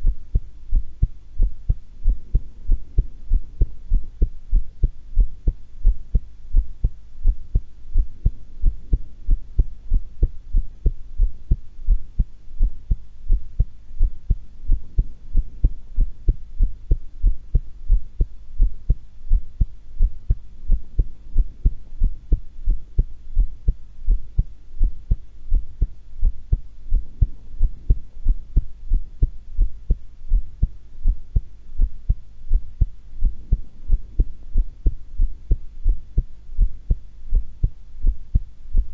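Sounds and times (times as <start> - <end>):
heartbeat: 0.0 - 38.9.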